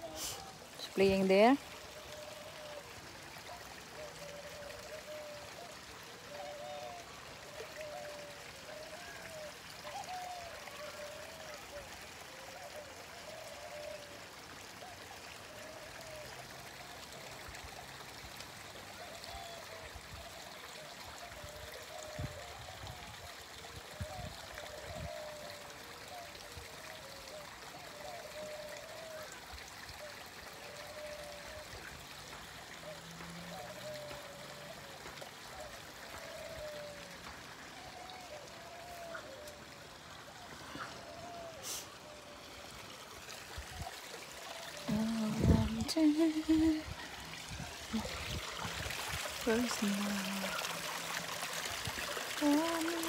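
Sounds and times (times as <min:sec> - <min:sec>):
trickling water hiss: 0:00.0 - 0:53.0.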